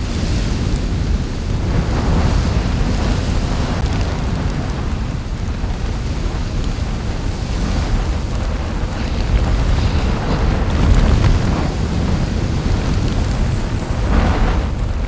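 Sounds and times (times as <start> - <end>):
volcanic eruption rumble: 0.0 - 15.0.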